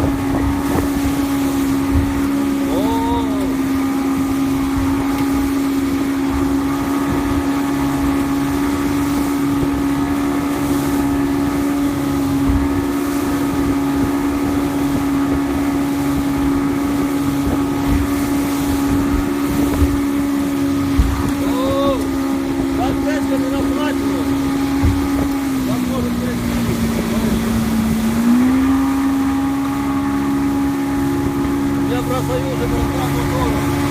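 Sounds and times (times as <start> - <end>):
outboard motor running: 0.0 - 33.9
wind on microphone: 0.0 - 33.9.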